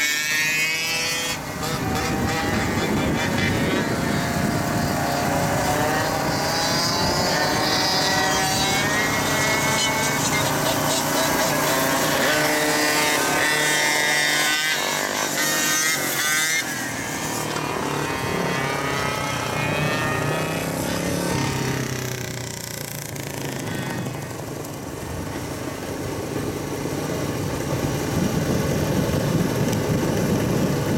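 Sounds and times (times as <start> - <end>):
small engines revving: 0.0 - 30.9.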